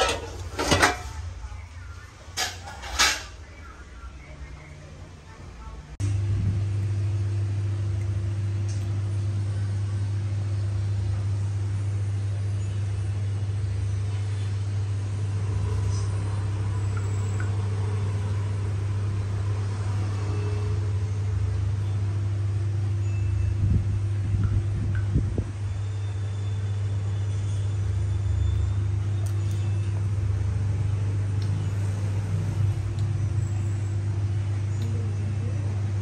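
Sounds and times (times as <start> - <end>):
machine humming: 3.4 - 36.0.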